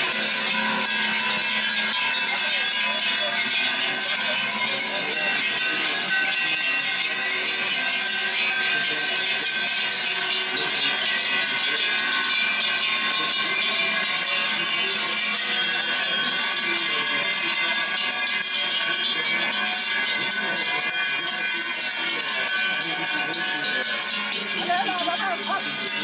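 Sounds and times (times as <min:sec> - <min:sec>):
cowbells clanging: 0:00.0 - 0:26.0.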